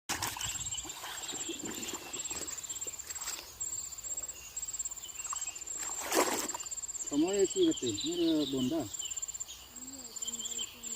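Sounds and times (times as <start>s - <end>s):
insects trilling: 0.1s - 10.9s.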